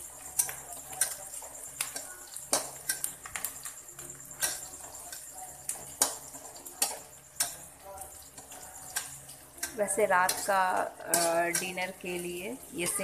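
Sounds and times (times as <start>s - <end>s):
metal spatula scraping a pan: 0.0s - 13.0s.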